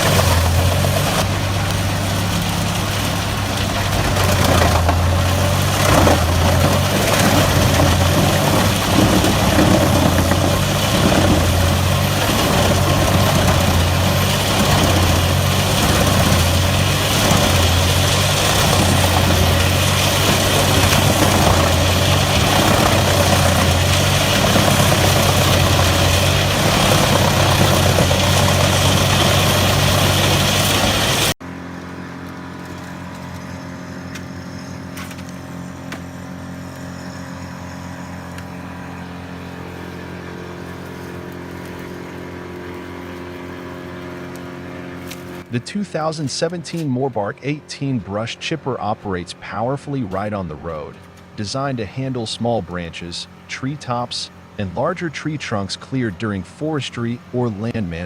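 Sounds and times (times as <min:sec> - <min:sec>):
wood chipper engine running: 0:00.0 - 0:58.0.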